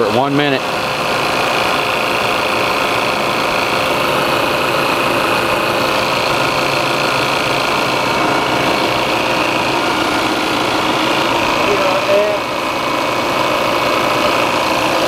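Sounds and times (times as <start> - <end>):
compressor machine running: 0.0 - 15.0.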